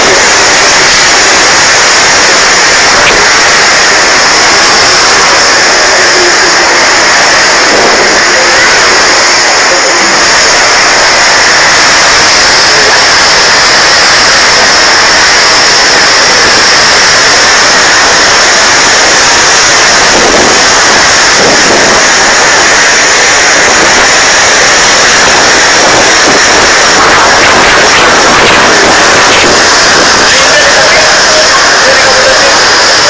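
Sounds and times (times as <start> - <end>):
strong wind and rain: 0.0 - 33.0.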